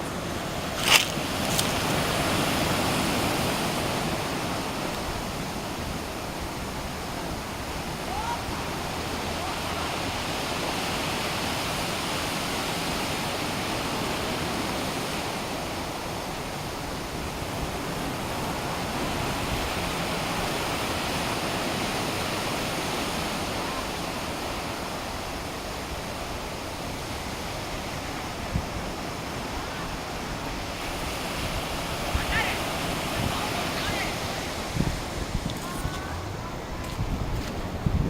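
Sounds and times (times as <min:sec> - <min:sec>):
surf breaking on beach: 0:00.0 - 0:38.0.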